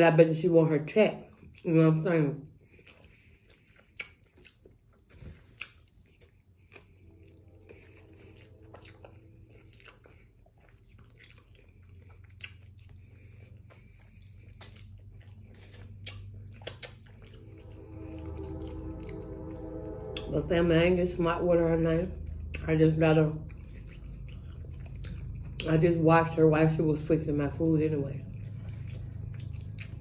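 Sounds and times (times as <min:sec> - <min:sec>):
person chewing with wet smacks: 0:01.2 - 0:01.8, 0:02.4 - 0:18.7, 0:22.3 - 0:30.0.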